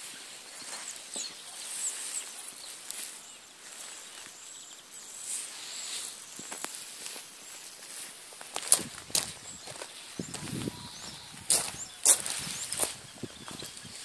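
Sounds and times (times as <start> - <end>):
footsteps on gravel: 0.0 - 4.4, 5.3 - 14.0
bird chirps: 0.0 - 6.6, 9.2 - 14.0.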